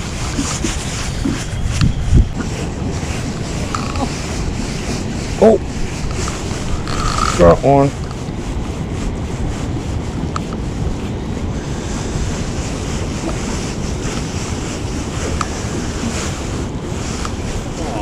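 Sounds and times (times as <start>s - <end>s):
open water washing: 0.0s - 18.0s
wind buffeting microphone: 0.0s - 18.0s.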